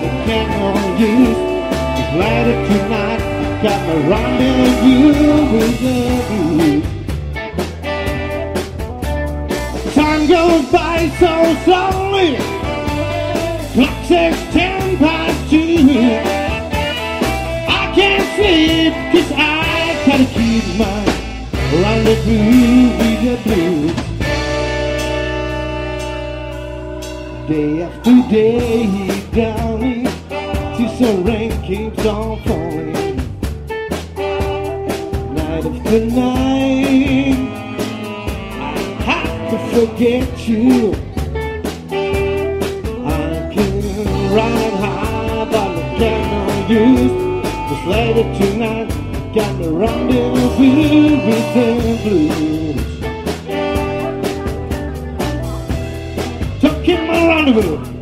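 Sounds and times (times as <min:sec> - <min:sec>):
man singing: 0:00.0 - 0:07.1, 0:09.9 - 0:24.9, 0:27.2 - 0:33.4, 0:35.1 - 0:41.4, 0:42.8 - 0:58.0
bass guitar: 0:00.0 - 0:58.0
drum kit beat: 0:00.0 - 0:58.0
electric guitar: 0:00.0 - 0:58.0
keyboard: 0:00.0 - 0:58.0.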